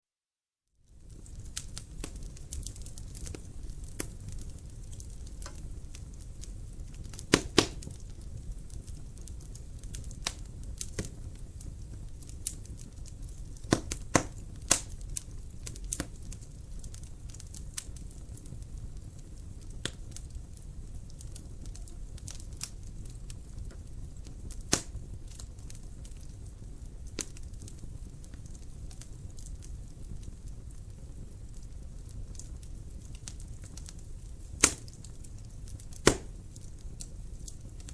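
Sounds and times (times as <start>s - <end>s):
fire flames rumbling: 0.7s - 37.9s
wood fire popping and snapping: 0.7s - 37.9s.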